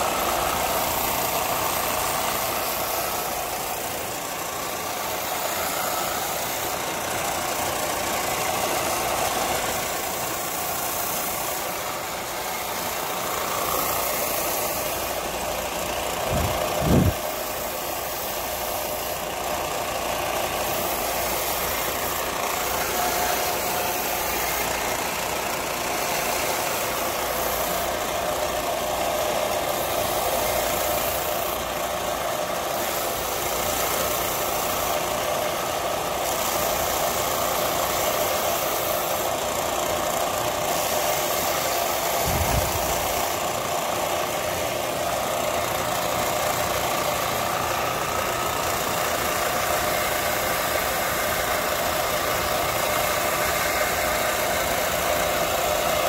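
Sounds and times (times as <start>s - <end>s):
machine motor running: 0.0s - 56.0s.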